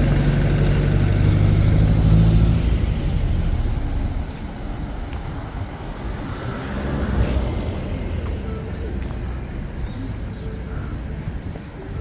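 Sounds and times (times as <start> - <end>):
outdoor background noise: 0.0 - 12.0
vehicle engine hum: 0.0 - 12.0.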